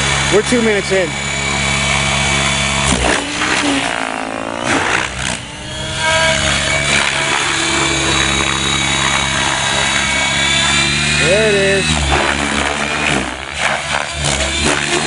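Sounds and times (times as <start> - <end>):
electric motor and rotor whine: 0.0 - 15.0.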